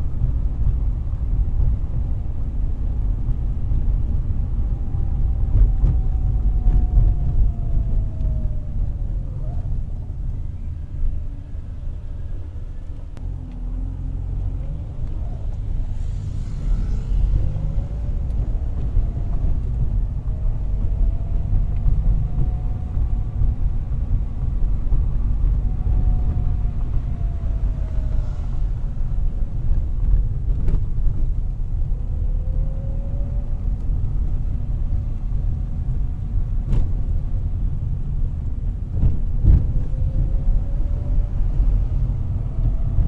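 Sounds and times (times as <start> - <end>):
car engine and road rumble: 0.0 - 43.0
faint whine: 3.2 - 43.0.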